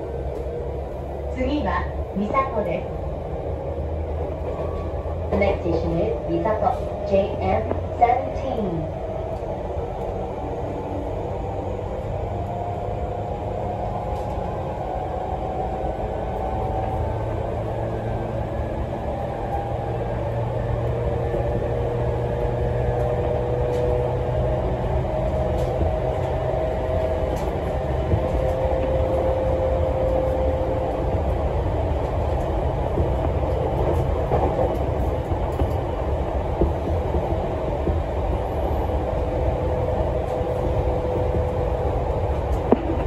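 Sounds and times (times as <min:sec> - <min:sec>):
electric train rumble: 0:00.0 - 0:43.0.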